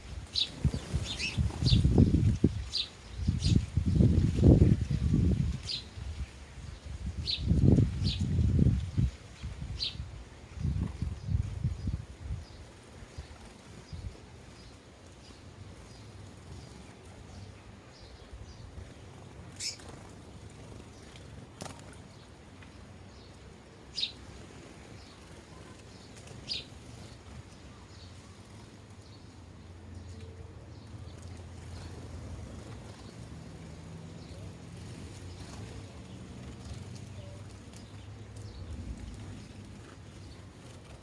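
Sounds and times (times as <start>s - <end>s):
sparrows chirping: 0.0s - 41.0s.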